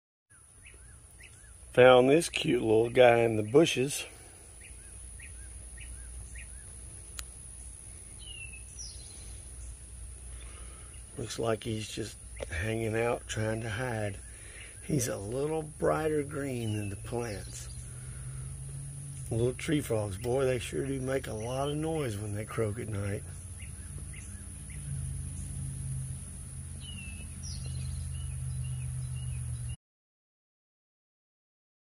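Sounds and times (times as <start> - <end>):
bird chirping: 0.3 - 29.8
steady low hum: 1.5 - 29.8
high insect drone: 1.8 - 29.7
low steady rumble: 4.1 - 29.8.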